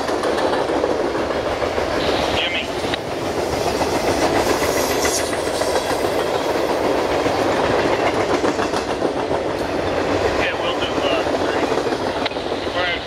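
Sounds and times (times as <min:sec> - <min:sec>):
freight train wheels rumbling: 0:00.0 - 0:13.0
wheels clicking over rail joints: 0:00.0 - 0:13.0.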